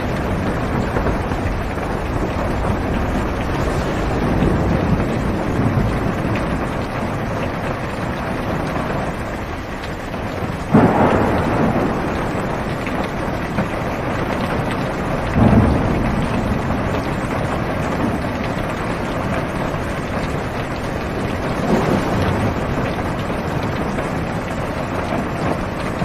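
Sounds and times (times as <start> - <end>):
rain on car roof: 0.0 - 26.0
thunder rumbling: 0.0 - 26.0.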